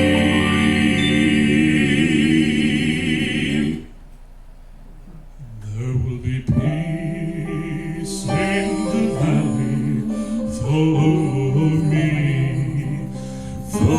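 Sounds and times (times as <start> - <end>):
vocal group singing gospel harmony: 0.0 - 4.0, 5.5 - 13.9.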